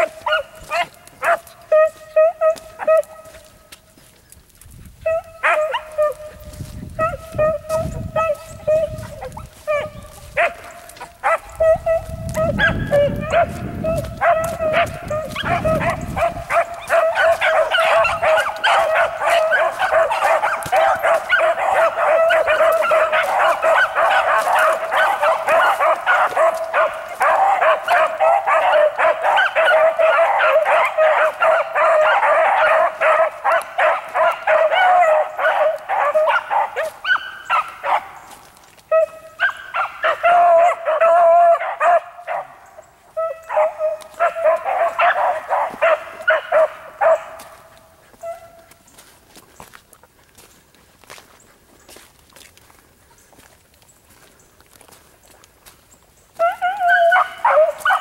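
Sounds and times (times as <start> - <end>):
hounds baying and barking: 0.0 - 53.5, 54.1 - 58.0.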